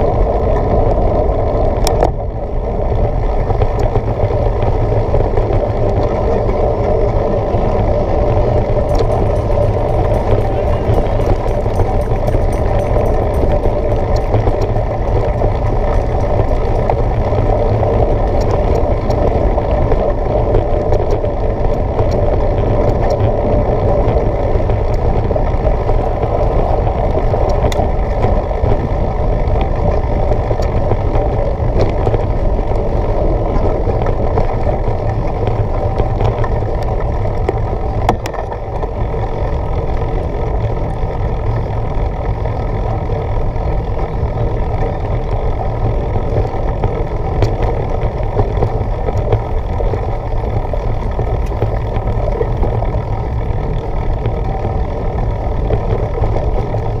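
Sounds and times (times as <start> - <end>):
bike clicks and rattles: 0.0 - 57.0
tyres rumbling on dirt track: 0.0 - 57.0
wind on microphone: 0.0 - 57.0.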